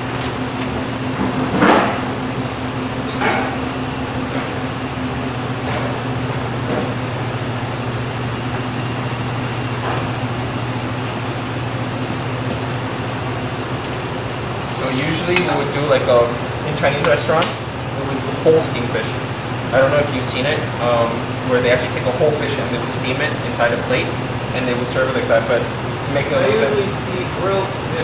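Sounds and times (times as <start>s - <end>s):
ventilation fans humming: 0.0s - 28.0s.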